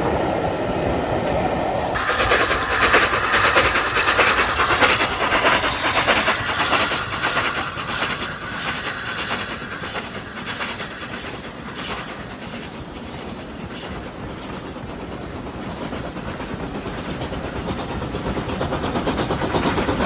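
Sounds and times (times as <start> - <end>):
train wheels clattering: 0.0 - 20.0.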